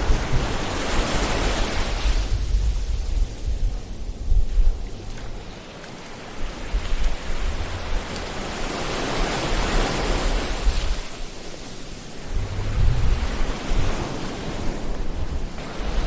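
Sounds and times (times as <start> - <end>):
low rumble of the sea: 0.0 - 16.0
ocean waves washing onto shore: 0.0 - 16.0.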